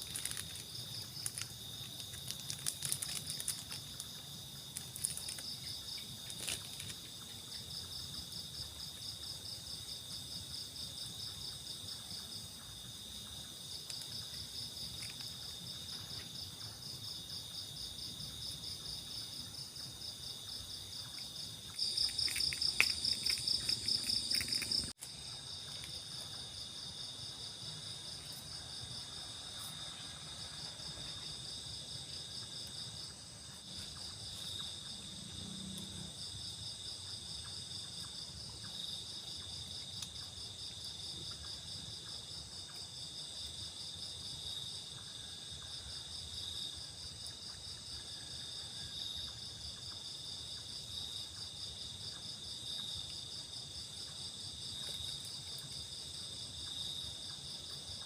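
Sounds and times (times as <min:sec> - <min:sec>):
night insects chirring: 0:00.0 - 0:58.0.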